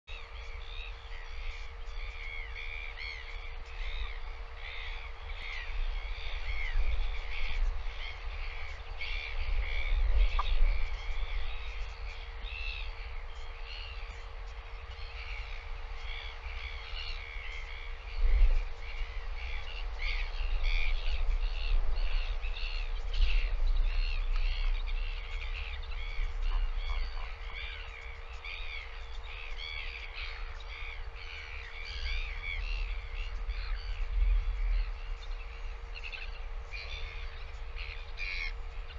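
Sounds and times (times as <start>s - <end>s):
low electrical hum: 0.1s - 38.9s
small birds chirping: 0.1s - 38.9s
wind on microphone: 0.2s - 38.9s.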